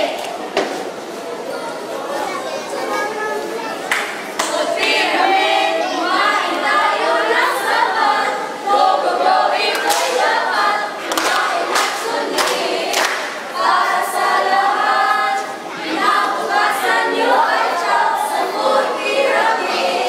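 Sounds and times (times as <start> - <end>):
teenagers singing in chorus: 0.0 - 0.8, 4.1 - 20.0.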